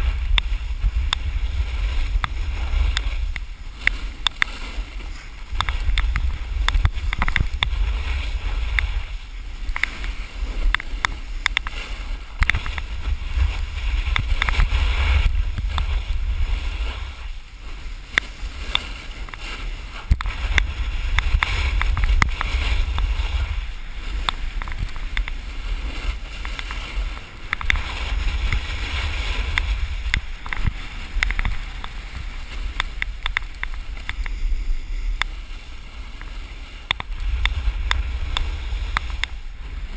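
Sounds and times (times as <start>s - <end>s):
snowboard scraping over snow: 0.0s - 39.9s
wind buffeting microphone: 0.0s - 39.9s.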